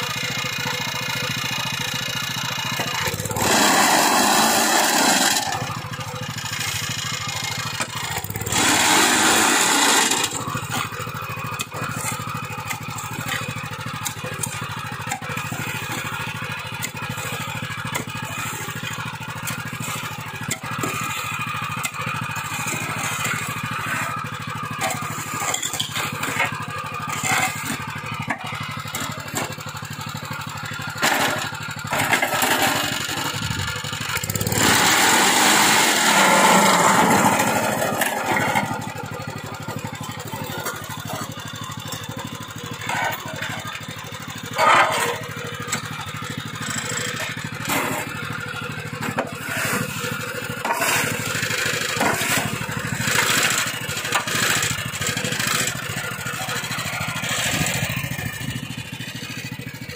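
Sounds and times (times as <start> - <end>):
small petrol engine running: 0.0 - 59.9
rake scraping wet concrete: 0.9 - 59.9.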